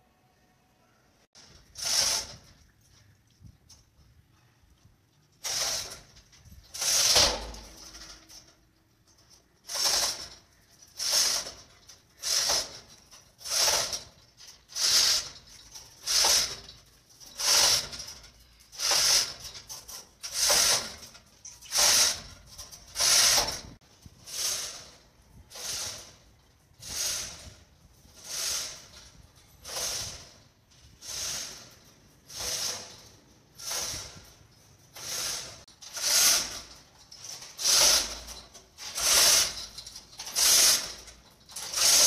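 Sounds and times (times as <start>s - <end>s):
chain running through hand hoist: 5.4s - 8.5s, 9.1s - 26.2s, 26.8s - 30.4s, 31.0s - 42.0s.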